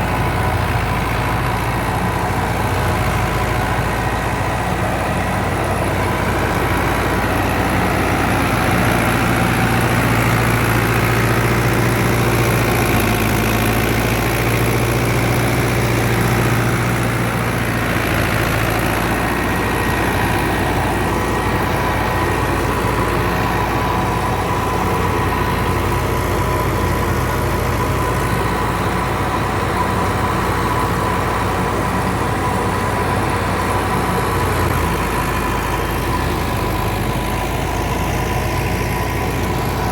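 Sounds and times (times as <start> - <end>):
tractor and thresher machine drone: 0.0 - 39.9.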